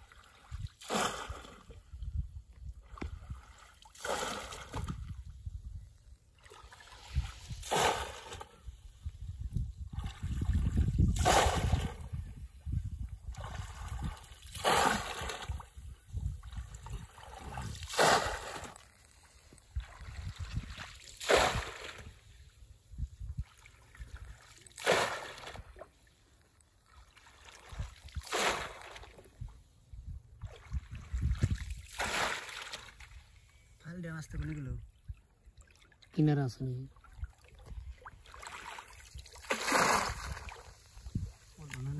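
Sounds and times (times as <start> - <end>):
water splashing and sloshing: 0.0 - 41.9.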